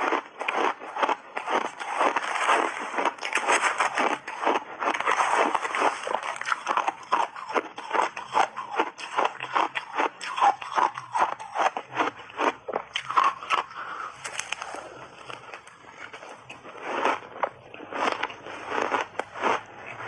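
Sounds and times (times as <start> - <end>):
shaved ice being chewed: 0.0 - 20.0.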